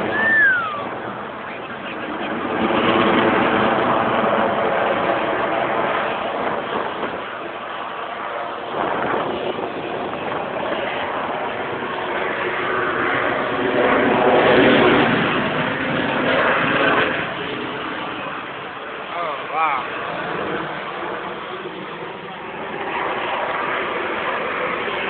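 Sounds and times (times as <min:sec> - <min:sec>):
aircraft engine roar: 0:00.0 - 0:25.0.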